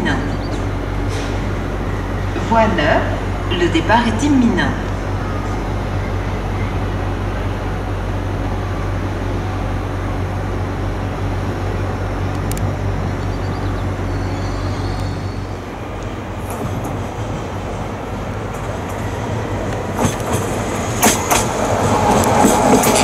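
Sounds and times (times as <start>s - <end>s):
train low drone: 0.0s - 23.0s.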